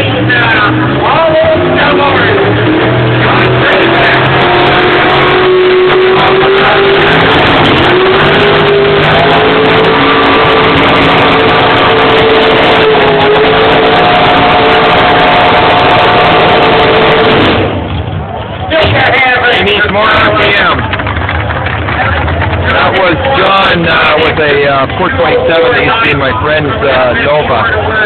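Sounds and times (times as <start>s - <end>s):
engine at full throttle: 0.0s - 28.0s.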